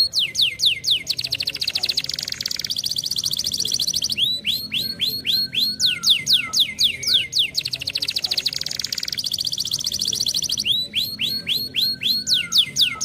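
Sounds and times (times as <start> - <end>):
canary singing trills and whistles: 0.0 - 13.0.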